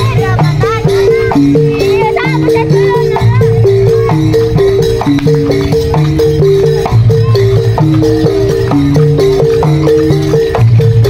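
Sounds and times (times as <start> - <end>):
mallet percussion melody: 0.0 - 11.0
steady percussion beat: 0.0 - 11.0.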